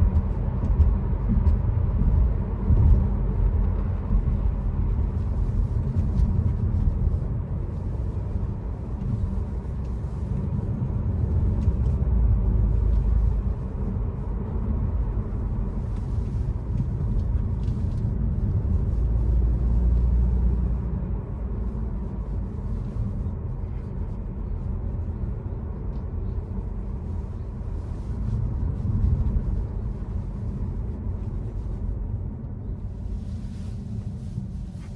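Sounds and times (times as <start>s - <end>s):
car engine droning: 0.0s - 34.9s
road rumble: 0.0s - 34.9s.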